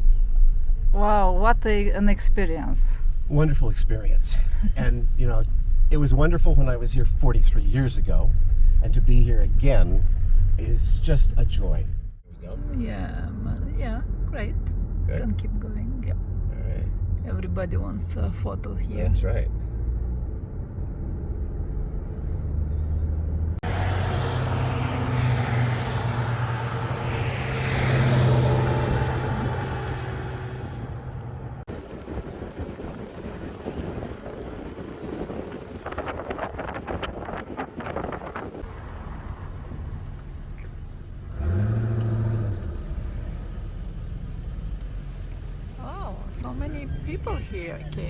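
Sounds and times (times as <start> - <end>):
low engine hum: 0.0 - 48.0
motor vehicle running: 0.0 - 48.0
road and wind noise: 0.0 - 48.0.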